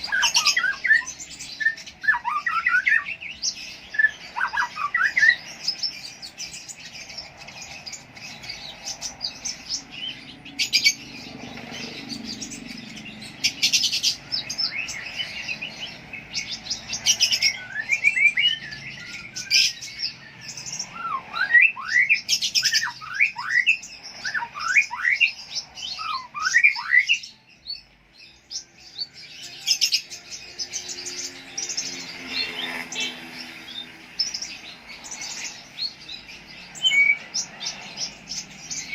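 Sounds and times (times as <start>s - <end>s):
lovebird singing: 0.0s - 38.9s.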